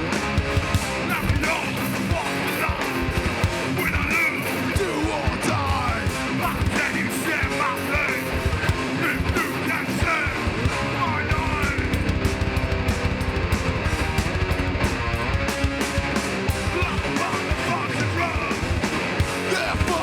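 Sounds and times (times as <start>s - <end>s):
distorted electric guitars: 0.0s - 20.0s
fast drums: 0.0s - 20.0s.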